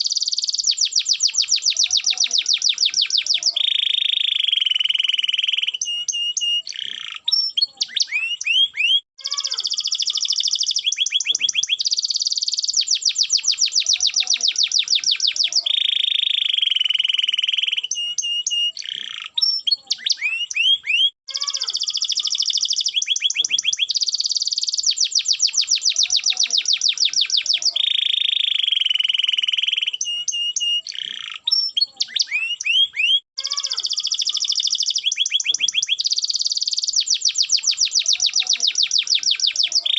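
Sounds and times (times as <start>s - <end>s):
canary singing in trills: 0.0s - 39.9s.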